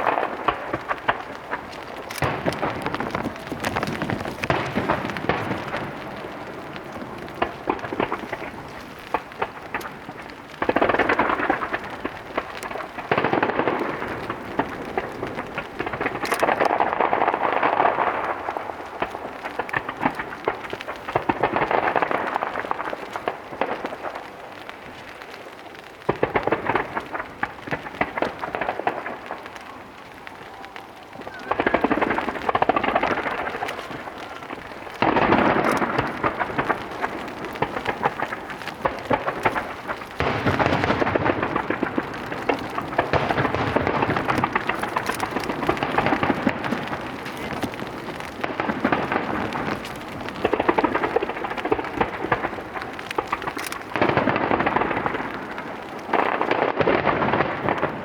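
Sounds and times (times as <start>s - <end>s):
rumbling firework booms: 0.0s - 25.4s, 26.0s - 58.0s
fireworks crackling: 0.0s - 58.0s.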